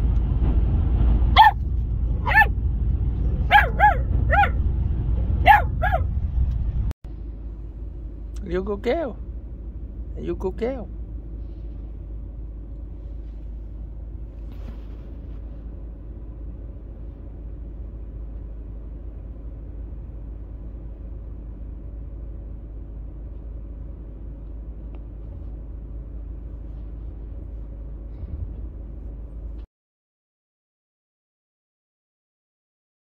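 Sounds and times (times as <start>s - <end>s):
car cabin rumble: 0.5s - 29.7s.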